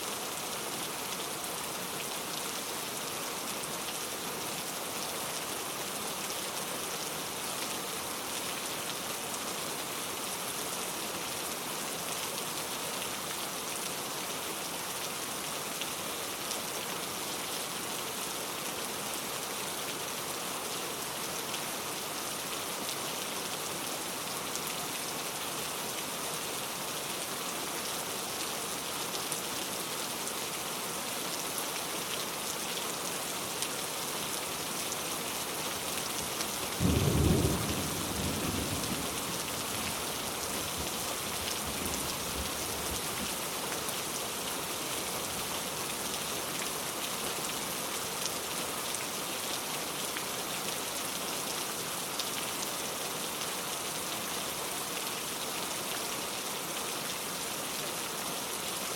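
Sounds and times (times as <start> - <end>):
heavy rain falling: 0.1 - 58.9.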